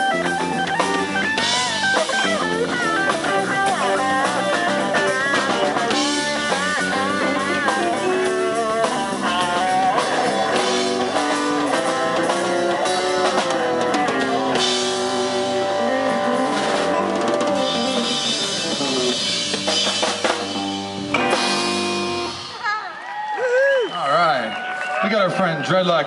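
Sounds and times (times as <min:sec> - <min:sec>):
electric bass: 0:00.0 - 0:22.6
lead electric guitar: 0:00.0 - 0:22.7
drum kit with cymbals: 0:00.0 - 0:22.8.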